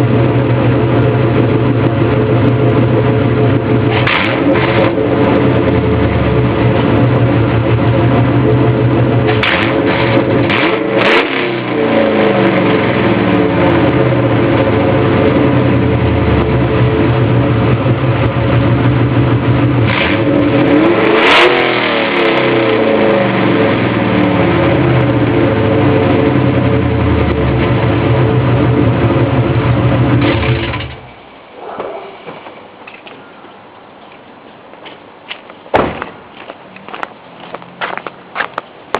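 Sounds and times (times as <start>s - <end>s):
loud car engine: 0.0s - 31.4s.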